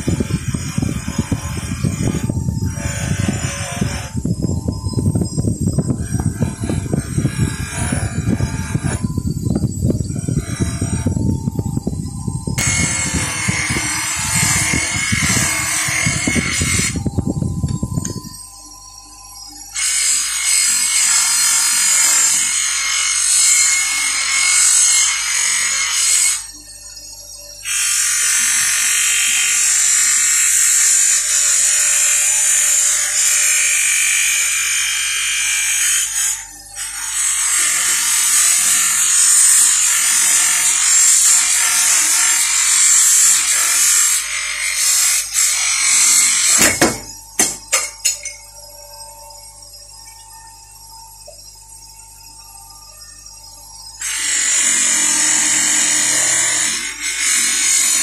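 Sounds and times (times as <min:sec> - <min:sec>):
bench grinder abrading metal: 0:00.0 - 0:18.3, 0:19.7 - 0:27.0, 0:27.6 - 0:49.2, 0:54.0 - 0:58.0.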